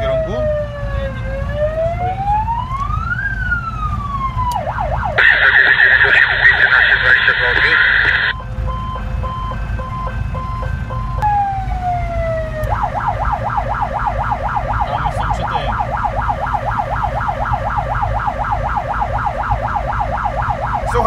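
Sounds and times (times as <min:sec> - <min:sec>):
electronic siren yelping: 0:00.0 - 0:21.0
engine rumbling: 0:00.0 - 0:21.0.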